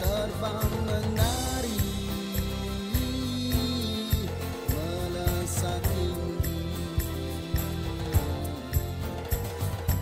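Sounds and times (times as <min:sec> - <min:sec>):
pop instrumental with steady beat: 0:00.0 - 0:10.0.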